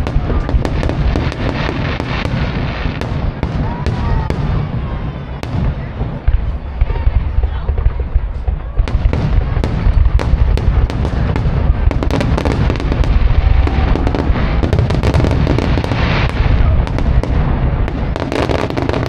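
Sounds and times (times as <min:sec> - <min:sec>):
fireworks bangs and crackling pops: 0:00.0 - 0:19.0
low rumble of explosions: 0:00.0 - 0:19.0.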